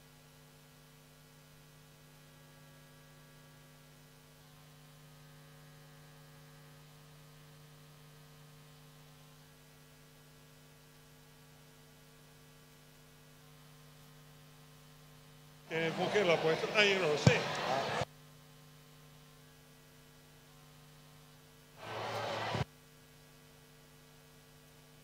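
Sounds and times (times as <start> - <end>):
electrical mains hum: 0.3 - 22.7.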